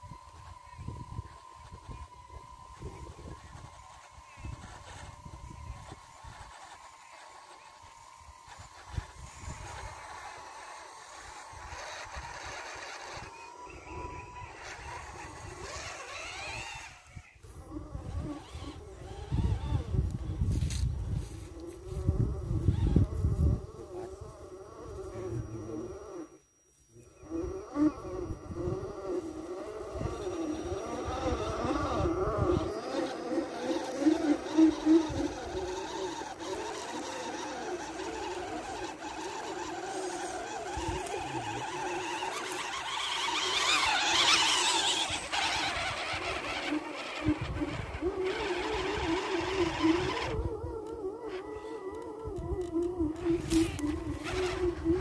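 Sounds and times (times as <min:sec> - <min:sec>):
rc truck motors whining: 0:00.0 - 0:55.0.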